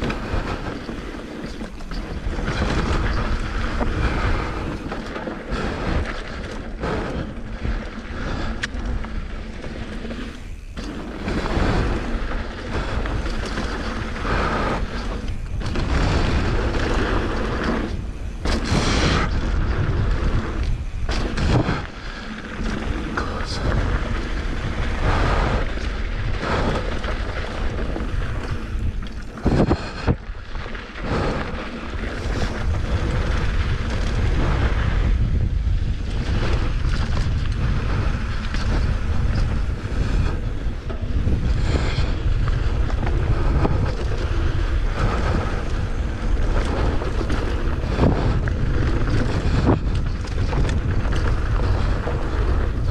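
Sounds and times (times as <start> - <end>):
bike knocking and clattering: 0.0 - 52.9
tyres rumbling on dirt trail: 0.0 - 52.9
wind buffeting microphone: 0.0 - 52.9.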